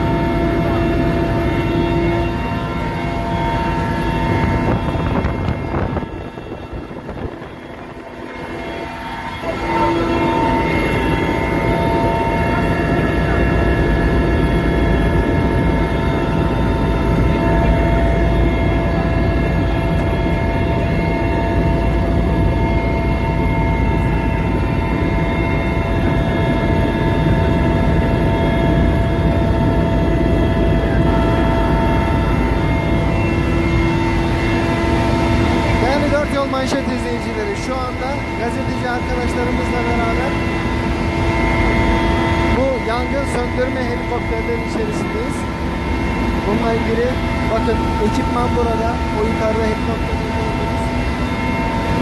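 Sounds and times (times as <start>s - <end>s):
constant whining tones: 0.0s - 52.0s
helicopter engine and rotor rumble: 0.0s - 52.0s.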